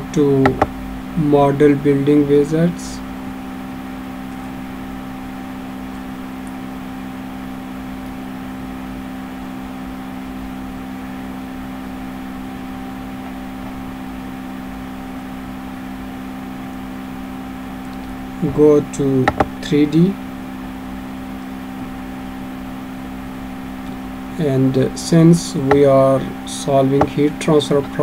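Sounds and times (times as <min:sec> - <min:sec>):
constant tones: 0:00.0 - 0:28.0
steady background hum and hiss: 0:00.0 - 0:28.0.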